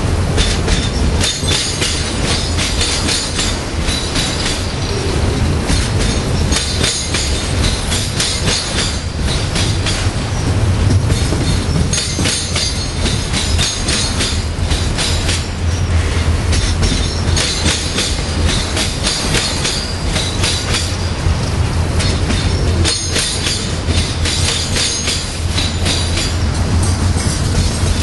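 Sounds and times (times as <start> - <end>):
freight train rumbling past: 0.0 - 28.0
train wheels clacking on rails: 0.0 - 28.0.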